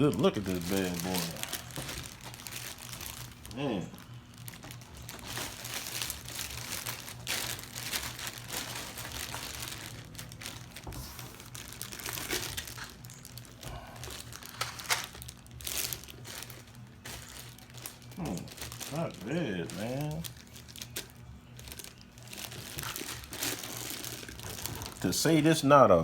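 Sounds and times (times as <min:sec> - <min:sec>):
packaging crinkling and rustling: 0:00.0 - 0:25.7.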